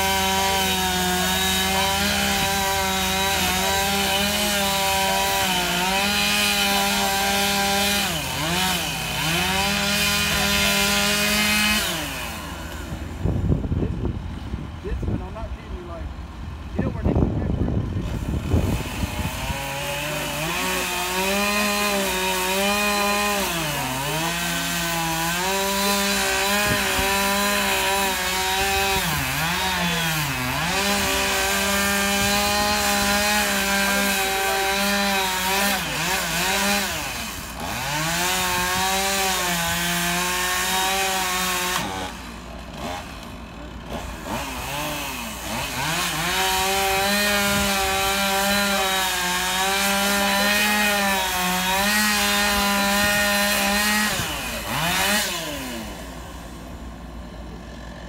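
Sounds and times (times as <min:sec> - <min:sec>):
chainsaw cutting timber: 0:00.0 - 0:58.0.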